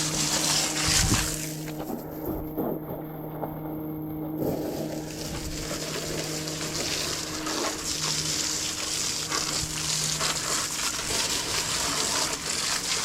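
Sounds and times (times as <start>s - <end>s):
water spraying from hose: 0.0s - 2.5s, 4.4s - 13.0s.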